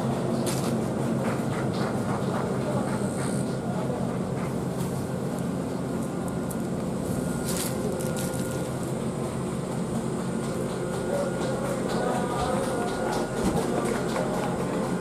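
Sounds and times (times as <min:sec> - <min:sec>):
electric locomotive humming: 0:00.0 - 0:15.0.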